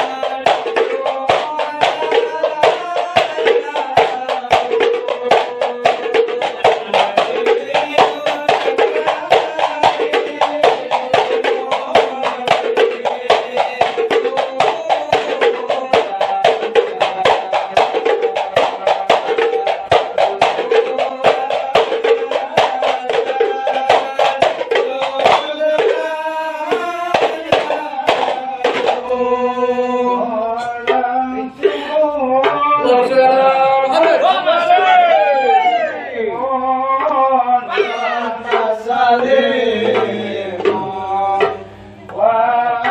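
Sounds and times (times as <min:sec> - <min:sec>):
frame drums beating: 0:00.0 - 0:42.9
men chanting: 0:00.0 - 0:42.9.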